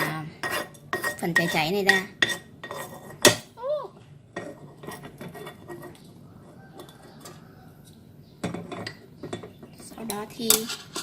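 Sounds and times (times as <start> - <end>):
utensil scraping a pan: 0.0 - 3.5, 4.3 - 11.0.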